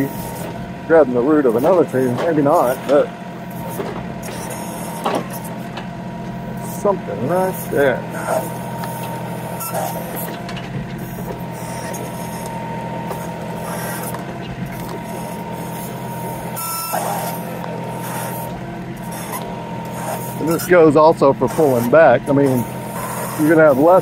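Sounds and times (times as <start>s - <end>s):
hydraulic whine: 0.0s - 24.0s
tractor engine running under load: 0.0s - 24.0s.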